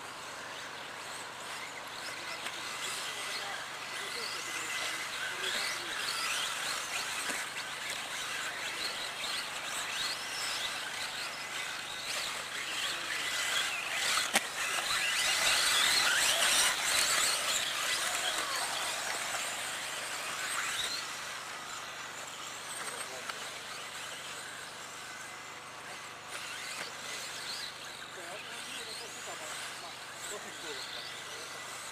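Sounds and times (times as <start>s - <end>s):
electric motors whining: 0.0s - 31.9s.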